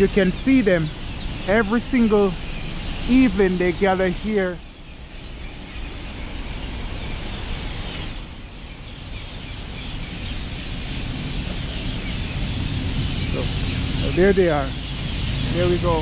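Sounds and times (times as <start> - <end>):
flock of birds chirping: 0.0 - 16.0
steady low rumble: 0.0 - 16.0.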